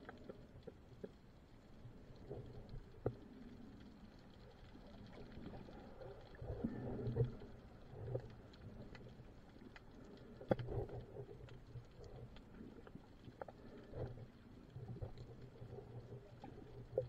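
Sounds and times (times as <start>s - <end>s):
faint clicks: 0.0s - 17.0s.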